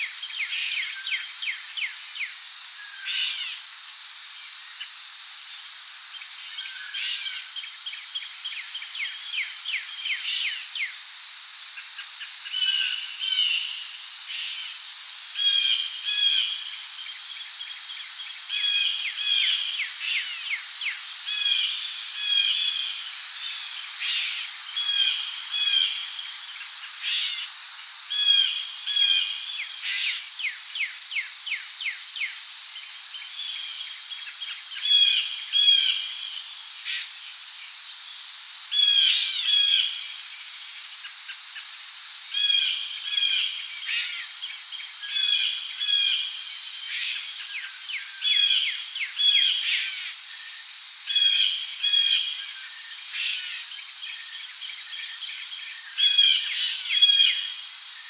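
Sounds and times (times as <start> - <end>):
crickets droning: 0.0 - 58.0.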